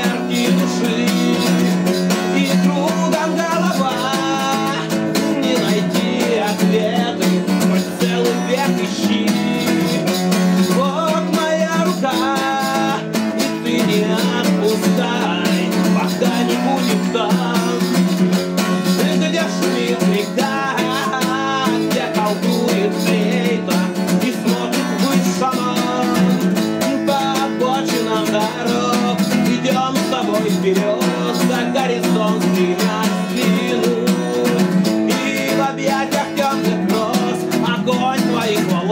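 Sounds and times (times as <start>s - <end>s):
acoustic guitar strumming: 0.0s - 38.9s
man singing: 0.0s - 38.9s.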